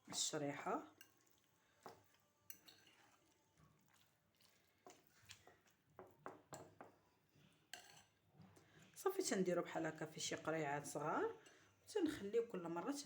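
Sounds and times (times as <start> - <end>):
soft squishing of food mixture: 0.0 - 13.0.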